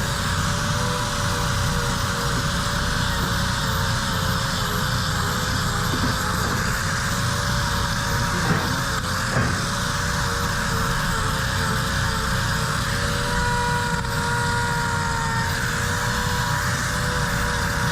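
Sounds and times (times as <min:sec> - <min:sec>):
angle grinder running: 0:00.0 - 0:17.9.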